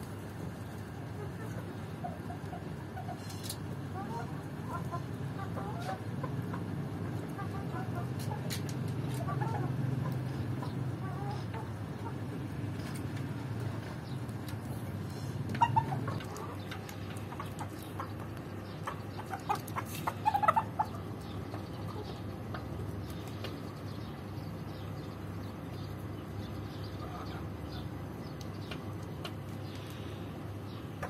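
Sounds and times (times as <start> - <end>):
chickens clucking: 0.4 - 31.0.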